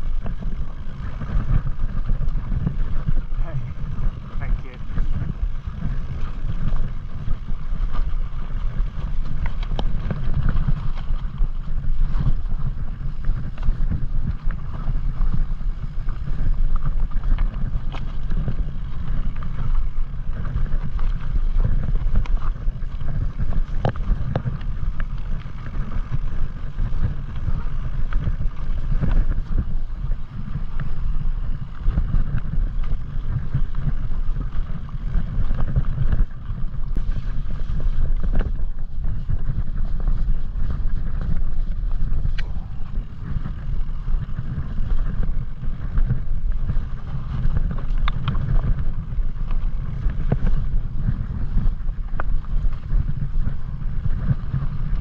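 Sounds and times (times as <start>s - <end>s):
bike tyres clicking over stones: 0.0s - 55.0s
steady low rumble: 0.0s - 55.0s
wind buffeting microphone: 0.0s - 55.0s.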